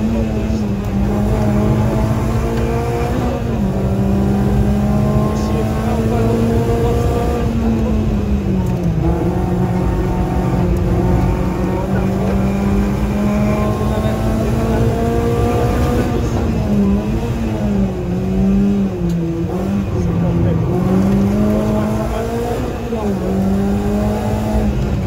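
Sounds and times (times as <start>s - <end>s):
car engine at high revs: 0.0s - 25.0s.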